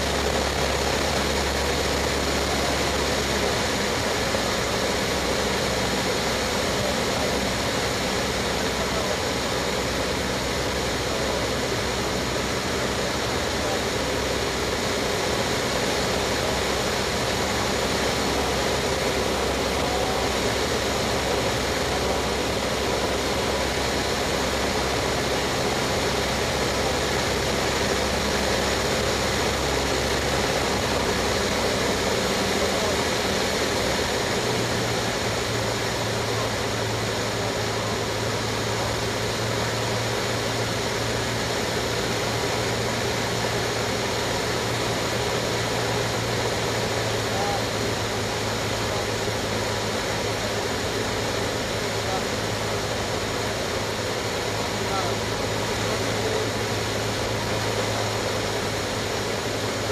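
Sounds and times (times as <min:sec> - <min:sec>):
propeller aircraft engine droning: 0:00.0 - 0:59.9
rush of airflow: 0:00.0 - 0:59.9.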